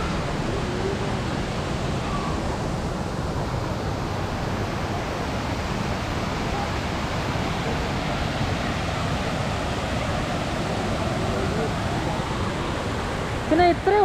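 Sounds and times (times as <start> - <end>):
waterfall and stream rushing: 0.0 - 14.0.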